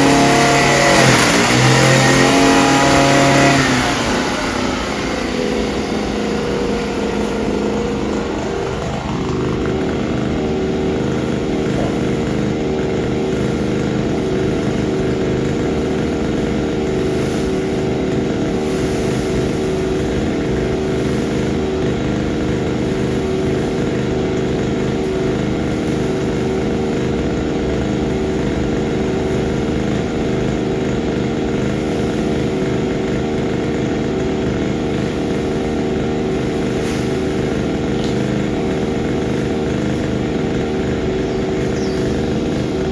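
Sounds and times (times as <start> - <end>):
fogging machine engine drone: 0.0 - 42.9.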